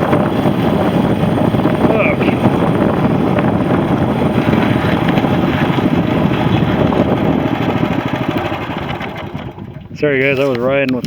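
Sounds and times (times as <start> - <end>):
mini bike engine running: 0.0 - 9.9
wind buffeting microphone: 0.0 - 11.0.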